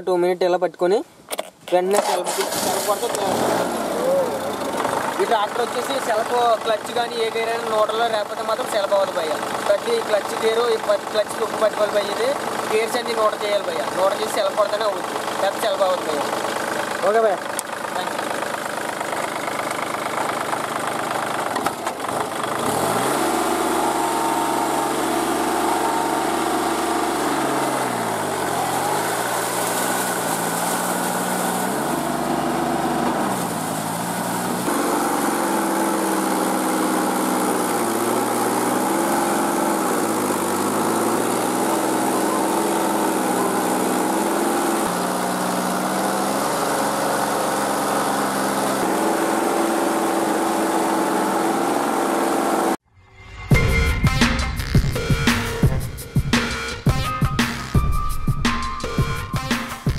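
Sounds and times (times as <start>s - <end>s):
tractor diesel engine running: 2.0s - 52.8s.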